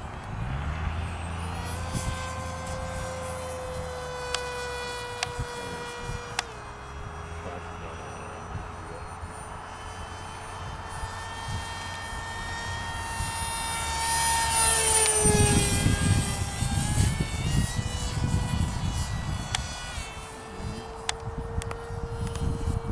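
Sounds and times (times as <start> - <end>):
model jet electric motor whine: 0.0 - 22.9.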